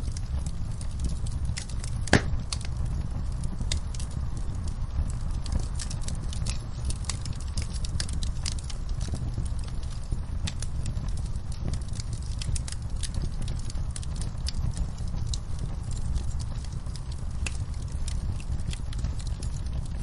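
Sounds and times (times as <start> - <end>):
fire flames rumbling: 0.0 - 20.0
wood fire crackles and pops: 0.0 - 20.0.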